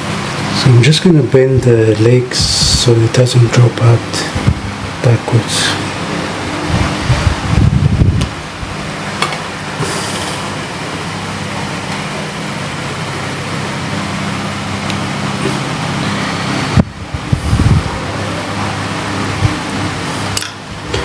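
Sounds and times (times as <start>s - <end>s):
electric fan hum with hiss: 0.0s - 21.0s.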